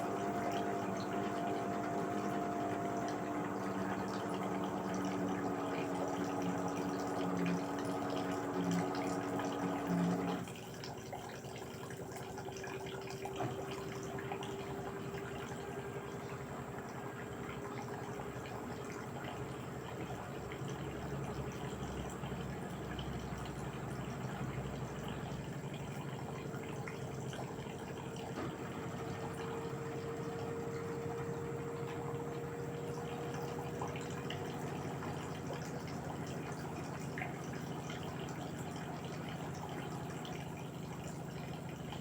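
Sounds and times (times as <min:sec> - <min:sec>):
trickling water: 0:00.0 - 0:42.0
washing machine pump hum: 0:00.0 - 0:42.0.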